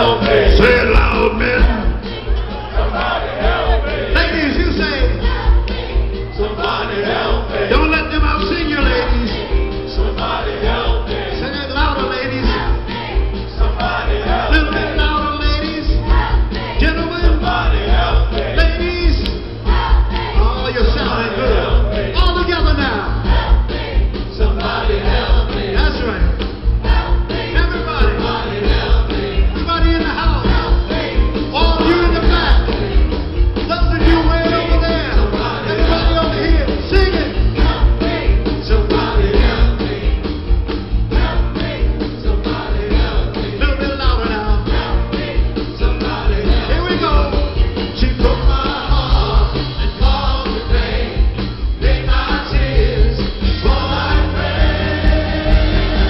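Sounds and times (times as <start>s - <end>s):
bass: 0.0s - 56.0s
drums: 0.0s - 56.0s
vocal group singing: 0.0s - 56.0s.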